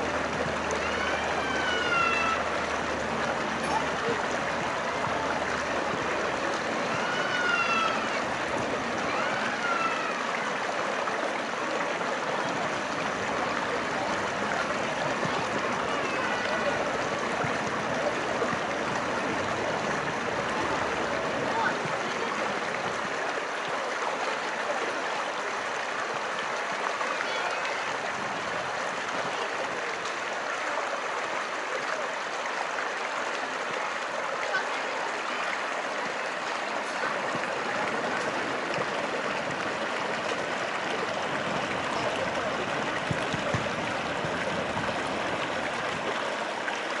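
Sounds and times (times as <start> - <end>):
stream water rushing over stones: 0.0 - 47.0.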